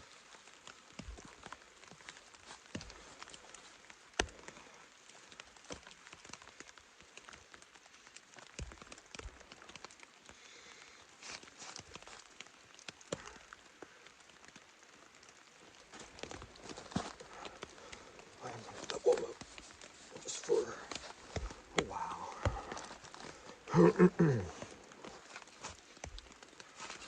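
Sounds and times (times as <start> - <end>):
rain pattering on fabric: 0.0 - 27.0.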